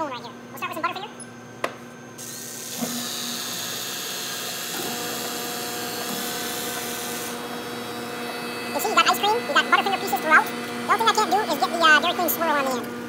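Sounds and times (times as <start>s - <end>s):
mix-in motor whirring: 2.0s - 13.0s.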